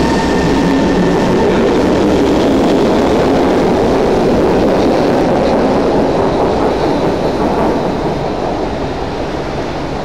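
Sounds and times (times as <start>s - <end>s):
train pulling out: 0.0s - 10.0s.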